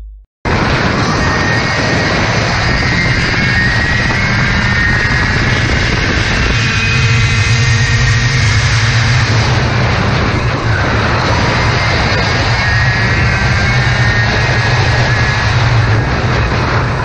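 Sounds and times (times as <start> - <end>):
kart engine high-revving whine: 0.5 - 17.0.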